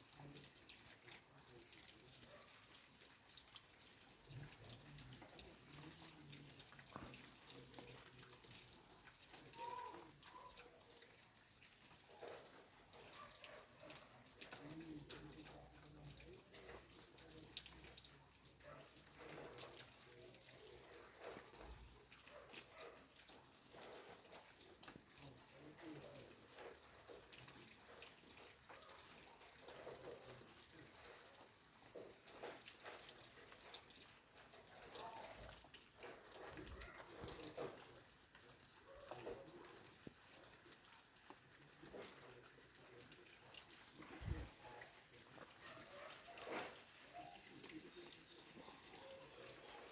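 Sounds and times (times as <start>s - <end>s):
faint rain dripping: 0.0s - 49.9s.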